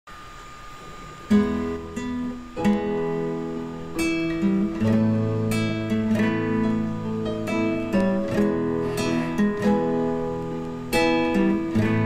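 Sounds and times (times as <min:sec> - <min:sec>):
acoustic guitar strumming chords: 0:01.2 - 0:12.0.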